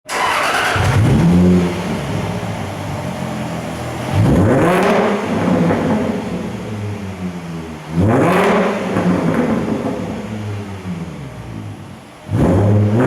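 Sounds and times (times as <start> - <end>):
car engine revving and idling: 0.1 - 13.0.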